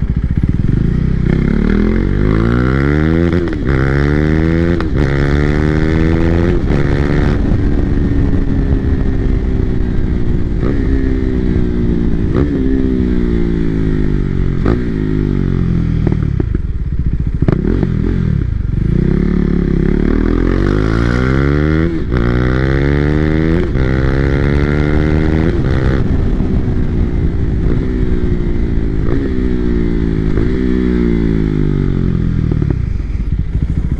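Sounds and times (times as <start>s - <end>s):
motorcycle engine revving through gears: 0.0s - 33.9s.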